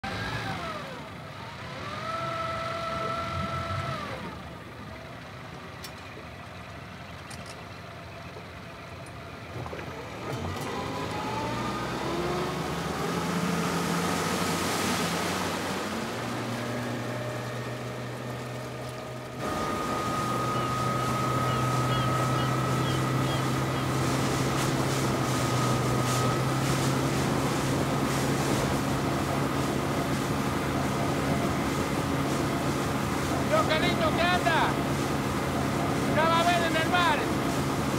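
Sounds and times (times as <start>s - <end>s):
outboard motor running: 0.0s - 37.9s.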